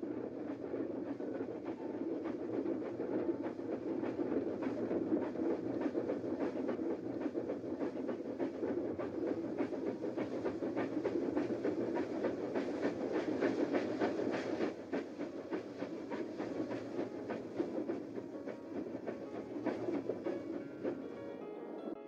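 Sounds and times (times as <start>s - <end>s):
steam train rumbling and clicking: 0.0s - 22.0s.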